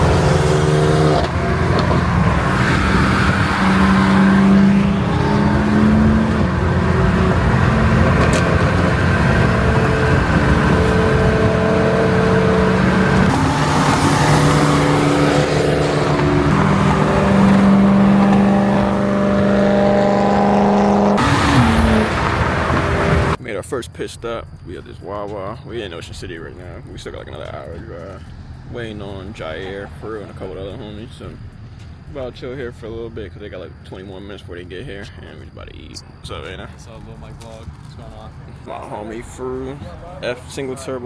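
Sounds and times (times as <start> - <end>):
car engines and exhausts: 0.0 - 41.0.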